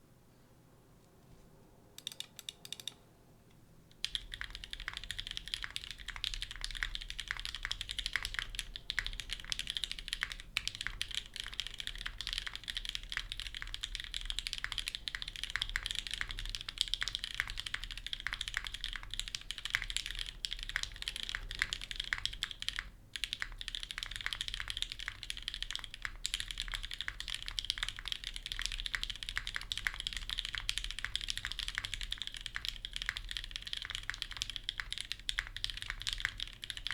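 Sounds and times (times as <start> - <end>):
fast typing on mechanical keyboard: 2.0 - 3.0, 4.0 - 36.9.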